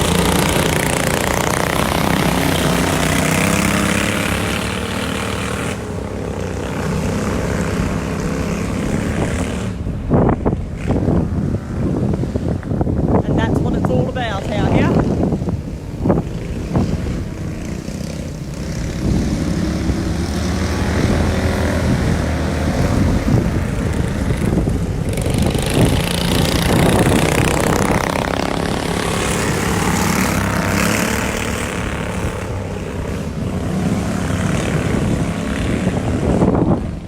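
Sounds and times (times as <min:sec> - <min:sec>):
racing lawn mower engines: 0:00.0 - 0:37.0.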